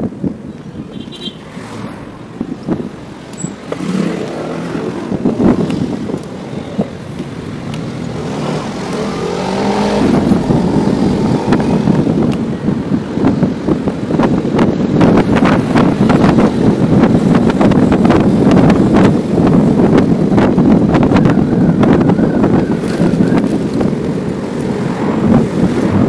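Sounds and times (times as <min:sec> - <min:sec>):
car and scooter engines: 0:00.0 - 0:26.0
wind on microphone: 0:00.0 - 0:26.0.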